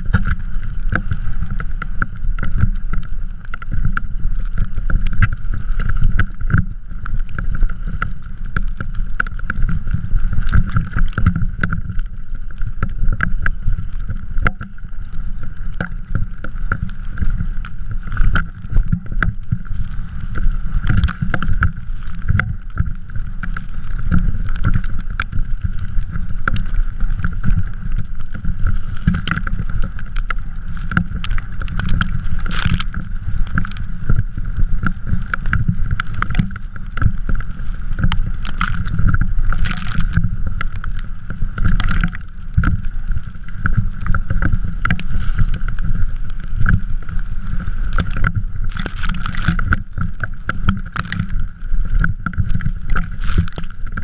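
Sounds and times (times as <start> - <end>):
wheels rumbling over snow: 0.0 - 54.0.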